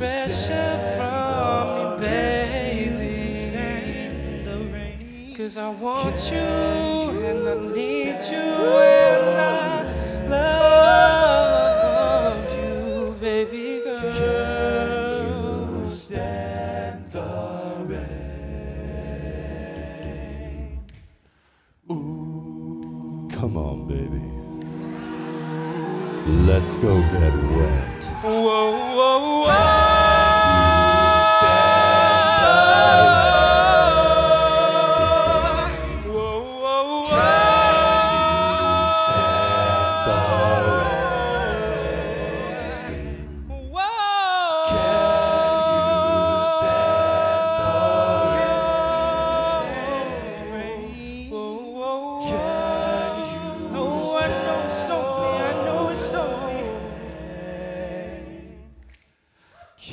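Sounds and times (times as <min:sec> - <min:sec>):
male a cappella group singing: 0:00.0 - 0:59.9.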